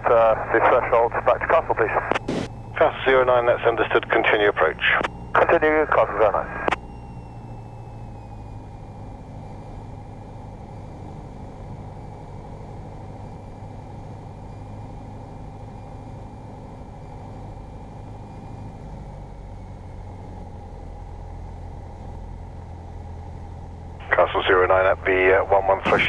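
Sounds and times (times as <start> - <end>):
aircraft engine droning: 0.0 - 26.0.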